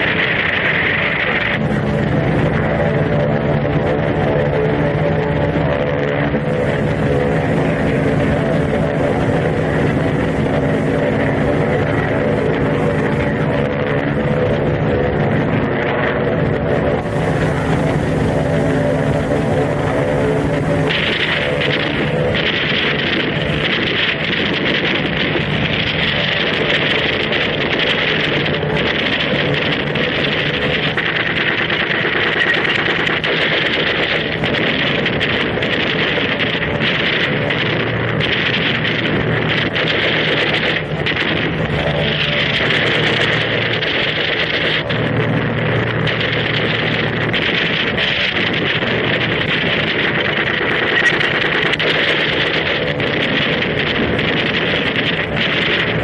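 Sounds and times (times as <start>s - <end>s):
propeller aircraft engines droning: 0.0s - 56.0s
rushing air noise: 0.0s - 56.0s.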